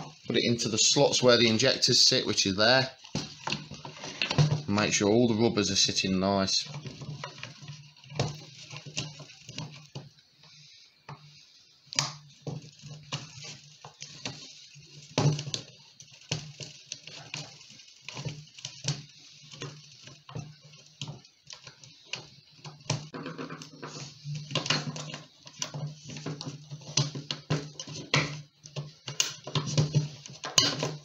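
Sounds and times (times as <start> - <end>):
plastic parts clicking and knocking: 0.0 - 31.0.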